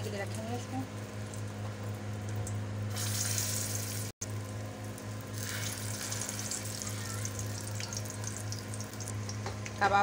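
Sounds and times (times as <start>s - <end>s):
kababs sizzling in hot oil: 0.0s - 10.0s.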